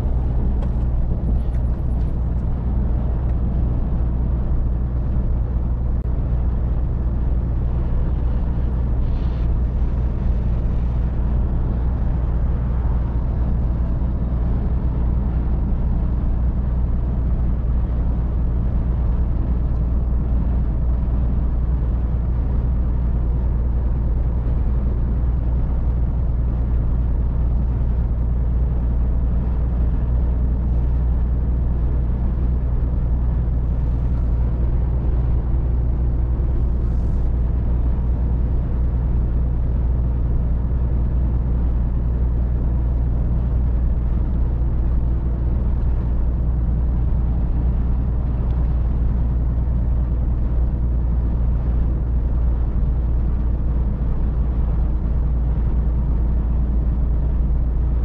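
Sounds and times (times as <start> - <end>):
truck diesel engine drone: 0.0 - 58.0
tyre and road noise: 0.0 - 58.0.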